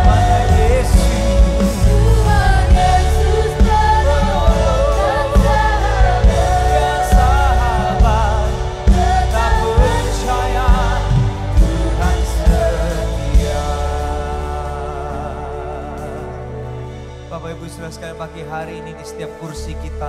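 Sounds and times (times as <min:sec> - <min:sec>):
people singing with vibrato: 0:00.0 - 0:17.6
drums: 0:00.0 - 0:18.4
bass: 0:00.0 - 0:20.0
keyboard: 0:00.0 - 0:20.0.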